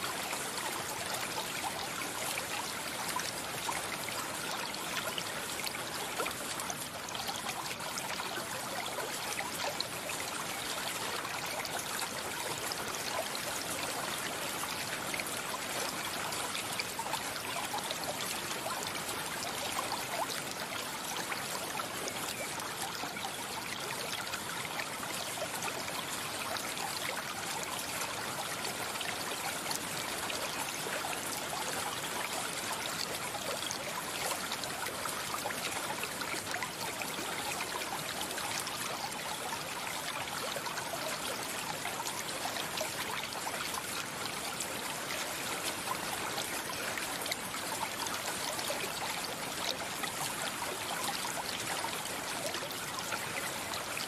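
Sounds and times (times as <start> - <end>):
stream babbling: 0.1 - 54.0.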